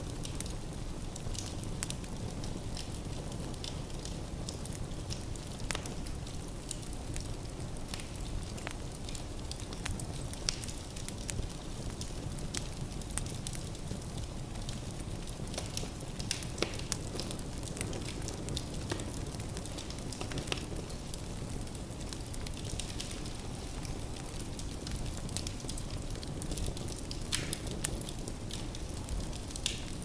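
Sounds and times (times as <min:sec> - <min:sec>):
firewood popping and crackling: 0:00.0 - 0:30.0
rumble of fireplace flames: 0:00.0 - 0:30.0.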